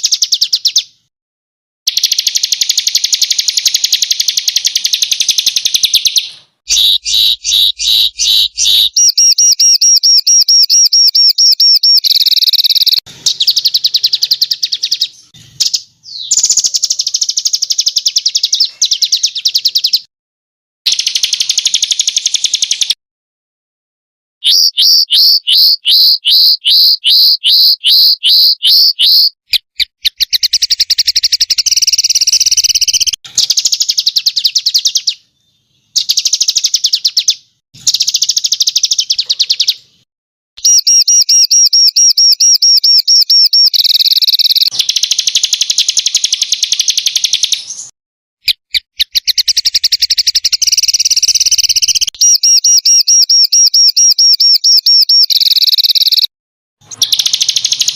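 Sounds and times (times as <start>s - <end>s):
songbirds singing rapid trills: 1.9s - 20.1s, 20.9s - 23.0s, 24.4s - 57.9s.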